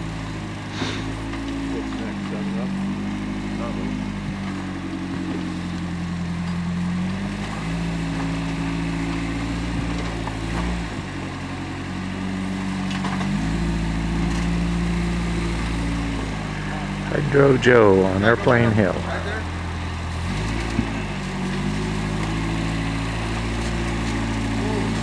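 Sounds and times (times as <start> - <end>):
buggy engine pulling at low speed: 0.0 - 25.0.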